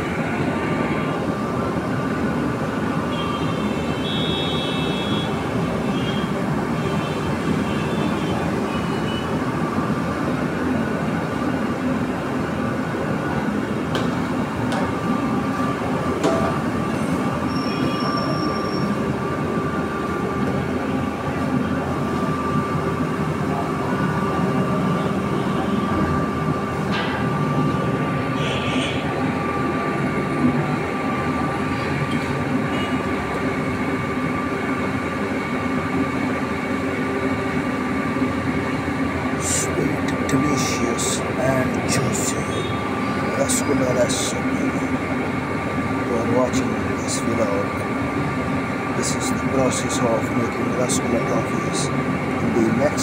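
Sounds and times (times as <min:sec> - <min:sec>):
machine rumble with steady whine: 0:00.0 - 0:53.0.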